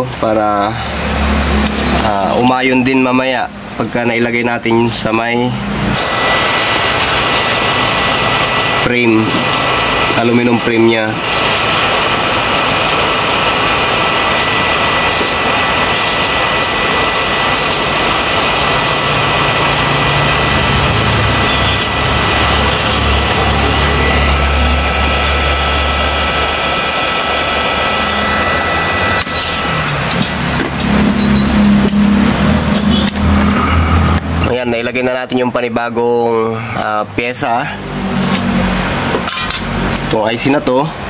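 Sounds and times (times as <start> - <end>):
hot air station blowing: 0.0 - 34.8
faint high whine: 0.0 - 36.5.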